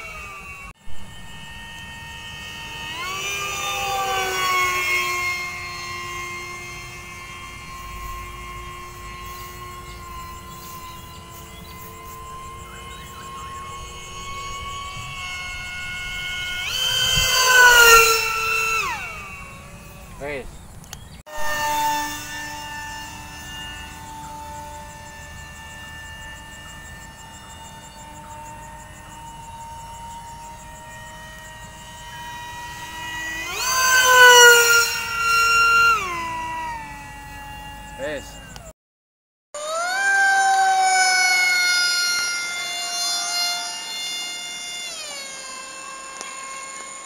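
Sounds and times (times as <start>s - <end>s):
model jet motor whine: 0.0s - 38.8s, 39.6s - 47.0s.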